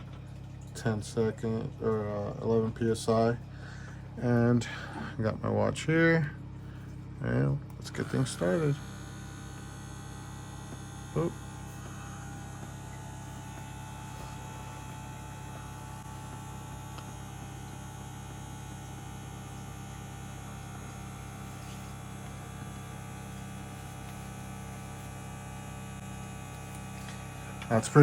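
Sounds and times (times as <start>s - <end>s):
electric ball pump humming: 0.0s - 28.0s.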